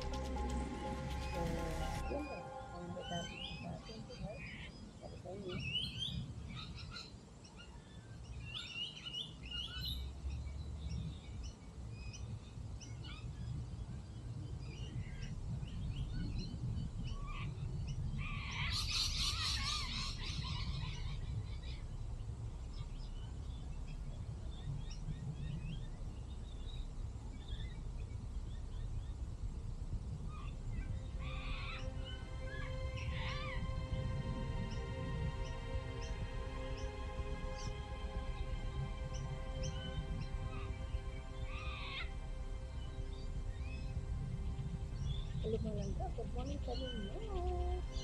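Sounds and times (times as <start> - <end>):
steady low rumble: 0.0 - 7.0, 9.7 - 48.0
wild birds chirping: 0.0 - 48.0.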